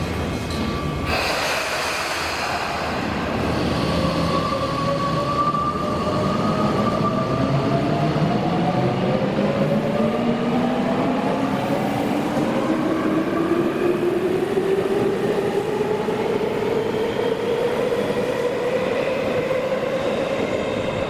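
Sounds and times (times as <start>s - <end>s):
subway train rumble: 0.0s - 21.0s.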